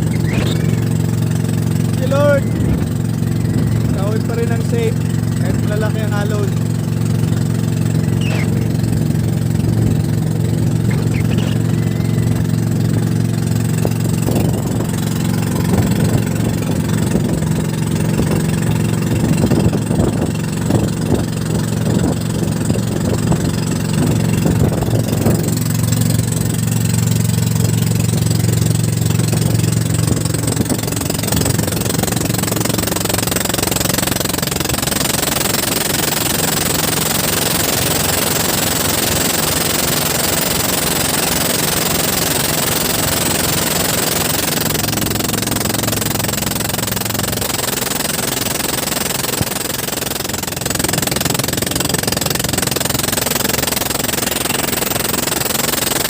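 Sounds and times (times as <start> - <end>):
boat engine running: 0.0 - 56.0
engine knocking: 0.0 - 56.0.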